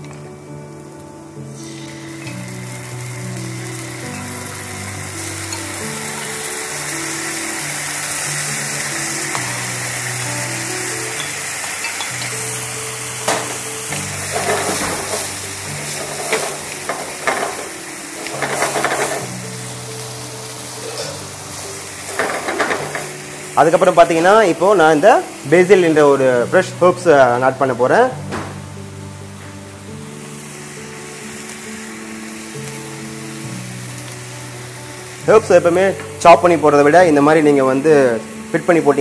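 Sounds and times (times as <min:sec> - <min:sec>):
tomato sizzling in oil: 0:00.0 - 0:39.0.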